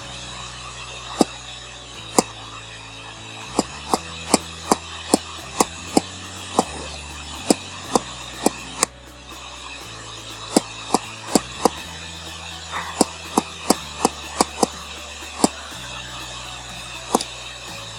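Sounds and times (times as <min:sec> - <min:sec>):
low hum: 0:00.0 - 0:17.9
steady hiss: 0:00.0 - 0:17.9.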